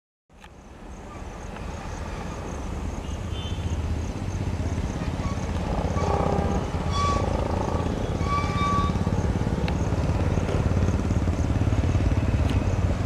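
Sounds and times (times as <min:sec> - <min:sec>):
diesel locomotive engine rumble: 0:00.6 - 0:13.0.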